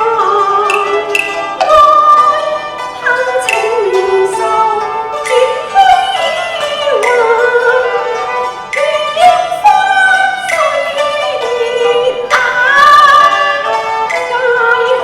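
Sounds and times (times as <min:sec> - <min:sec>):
bowed string accompaniment: 0:00.0 - 0:15.0.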